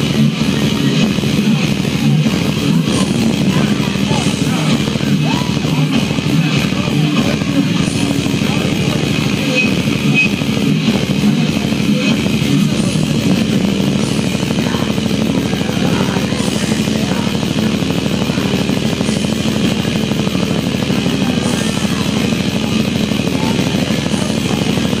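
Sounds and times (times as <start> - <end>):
distorted electric guitar: 0.0 - 25.0
fast dense drumming: 0.0 - 25.0.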